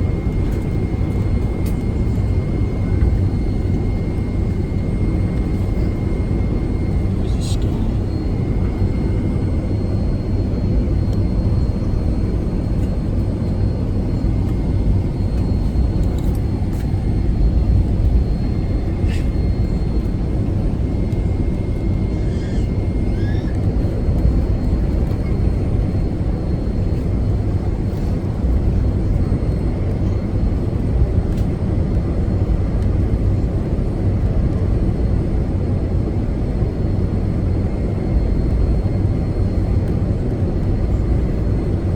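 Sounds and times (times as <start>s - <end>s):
airliner engines and airflow rumble: 0.0s - 41.9s.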